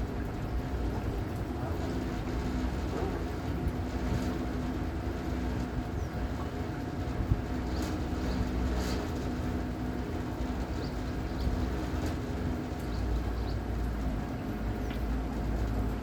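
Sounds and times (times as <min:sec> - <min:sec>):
wind and water rumble: 0:00.0 - 0:16.0.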